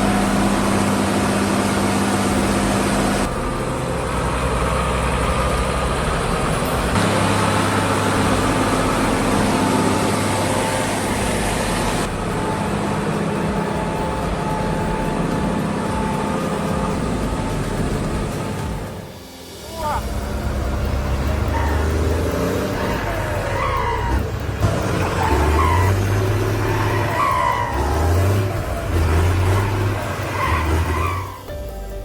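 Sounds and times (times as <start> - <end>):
diesel tractor engines running: 0.0 - 32.0.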